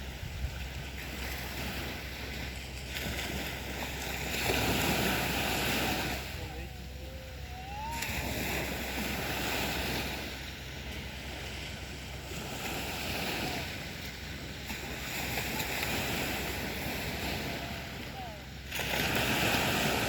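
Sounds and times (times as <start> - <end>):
waves washing onto a beach: 0.0 - 20.0.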